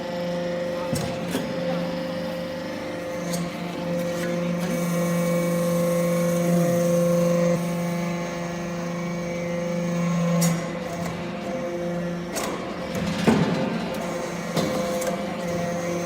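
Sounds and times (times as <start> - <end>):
hydraulic press humming: 0.0 - 16.0.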